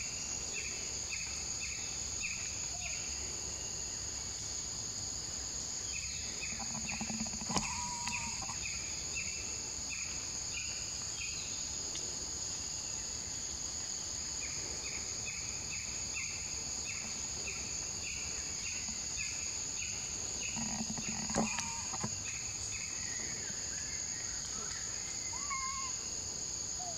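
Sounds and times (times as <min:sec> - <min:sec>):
forest insects droning: 0:00.0 - 0:26.9.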